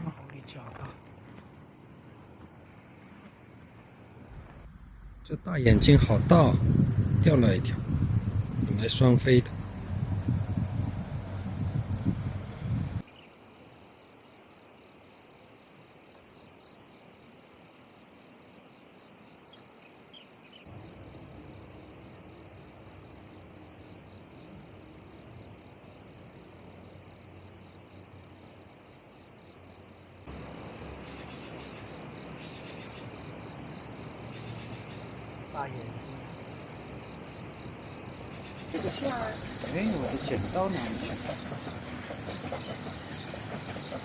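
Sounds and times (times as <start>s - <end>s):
crickets chirping: 0.0s - 44.0s
insect fast trill: 4.8s - 44.0s.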